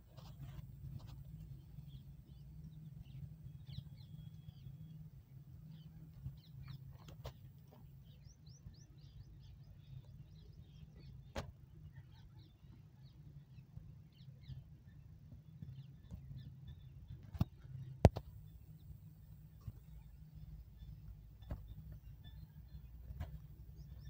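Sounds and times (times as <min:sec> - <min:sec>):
faint birds chirping: 0:00.0 - 0:24.0
low steady hum: 0:00.0 - 0:24.0.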